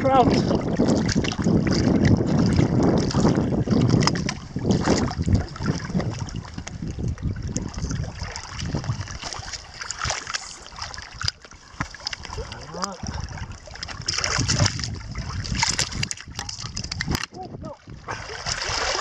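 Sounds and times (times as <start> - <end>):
water lapping against rocks: 0.0 - 19.0
wind on microphone: 0.0 - 19.0.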